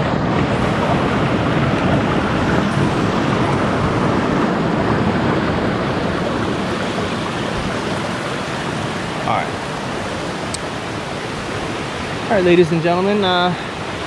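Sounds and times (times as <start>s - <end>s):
creek water rushing over boulders: 0.0s - 14.0s.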